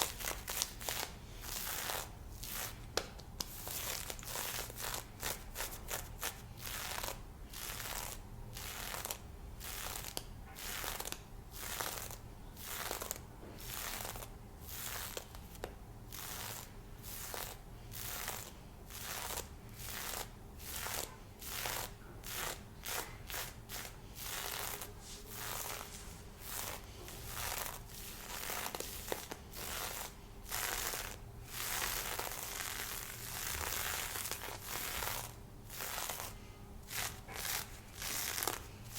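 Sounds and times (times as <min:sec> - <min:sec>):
stockings being scratched: 0:00.0 - 0:38.9.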